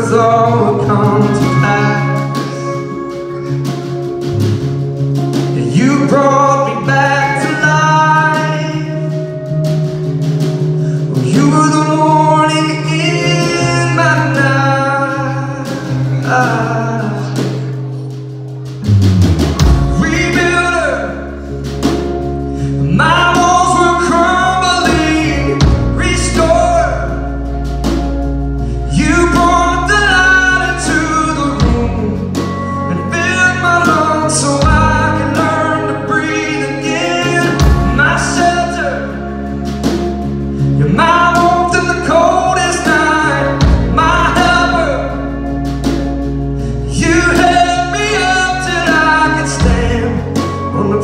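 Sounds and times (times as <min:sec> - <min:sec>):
man singing: 0:00.0 - 0:04.1, 0:05.4 - 0:10.0, 0:10.8 - 0:18.2, 0:19.6 - 0:51.0
drum kit: 0:00.0 - 0:51.0
electric guitars: 0:00.0 - 0:51.0.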